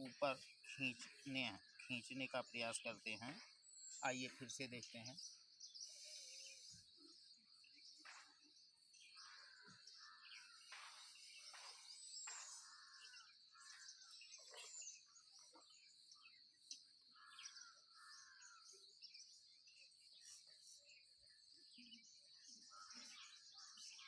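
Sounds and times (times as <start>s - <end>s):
faint birdsong: 0.0s - 24.0s.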